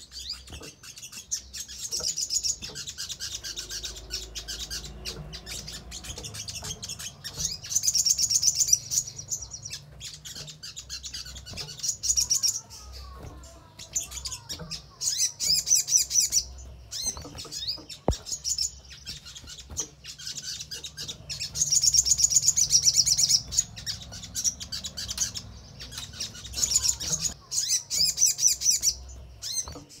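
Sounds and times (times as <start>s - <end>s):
bird chattering trills: 0.0s - 30.0s.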